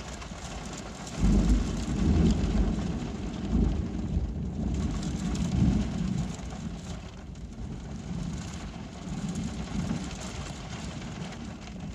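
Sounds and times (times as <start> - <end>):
rain falling: 0.0 - 11.9
thunder rumbling: 0.0 - 11.9.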